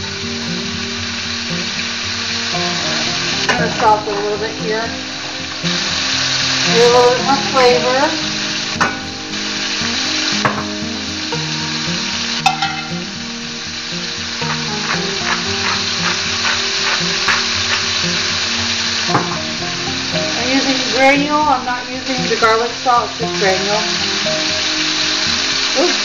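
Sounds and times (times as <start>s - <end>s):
beef sizzling in oil: 0.0s - 26.0s.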